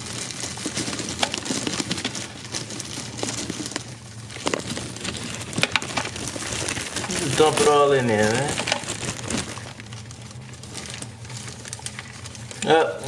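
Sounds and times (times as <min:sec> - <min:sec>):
plastic crinkling and rustling: 0:00.0 - 0:13.0.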